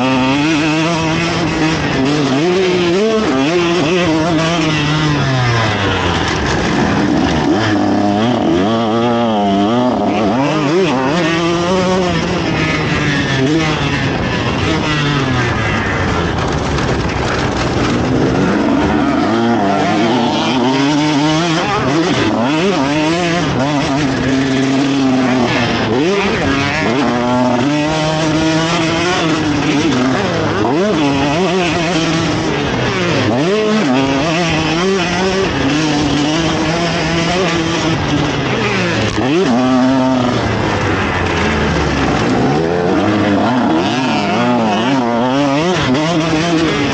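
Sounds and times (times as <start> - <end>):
motocross engine revving: 0.0 - 46.9.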